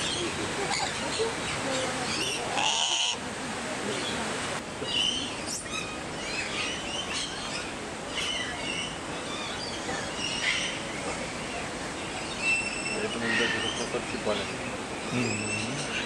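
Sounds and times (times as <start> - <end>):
birds chirping: 0.0 - 16.0
steady background noise: 0.0 - 16.0.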